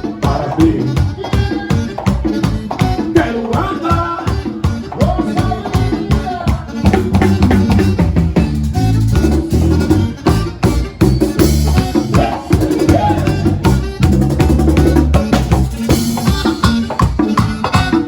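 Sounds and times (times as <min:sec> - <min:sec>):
bass line: 0:00.0 - 0:18.0
drum kit beat: 0:00.0 - 0:18.0.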